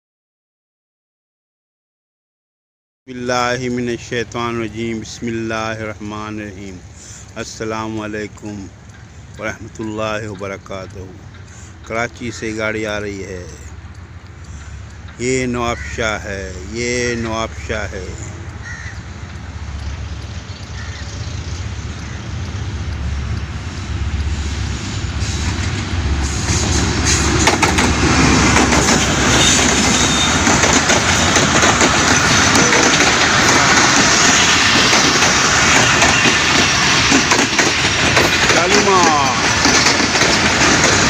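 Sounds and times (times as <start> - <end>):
train rumble: 3.1 - 41.0
train wheels clattering: 5.3 - 41.0.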